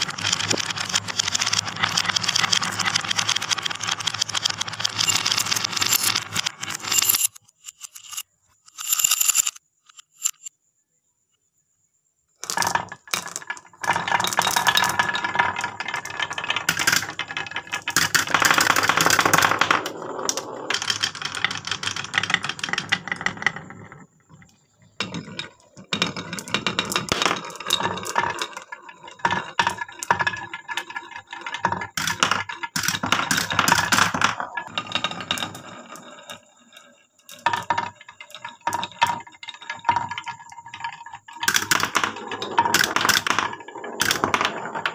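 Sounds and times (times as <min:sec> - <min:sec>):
balls rattling down wooden tracks: 0:00.0 - 0:10.5, 0:12.4 - 0:44.9.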